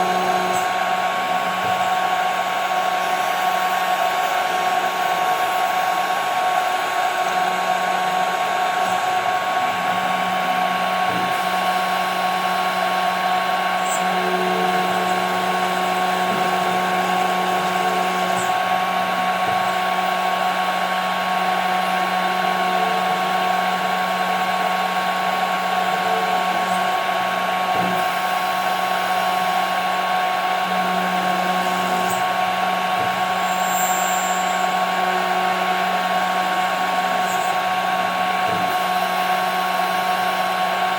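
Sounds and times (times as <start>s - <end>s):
cnc router spindle whining: 0.0s - 40.9s.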